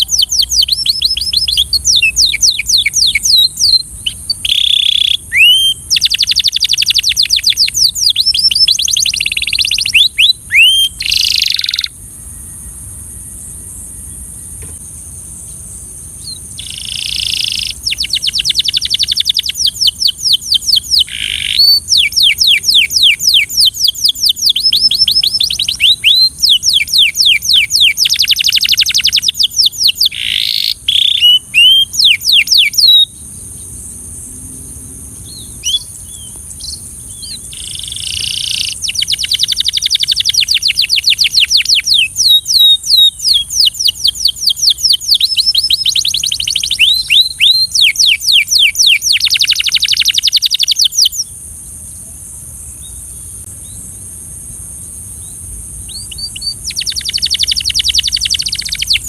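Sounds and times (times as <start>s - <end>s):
canary singing trills: 0.0s - 14.8s, 15.4s - 33.8s, 35.1s - 53.8s, 55.1s - 59.0s.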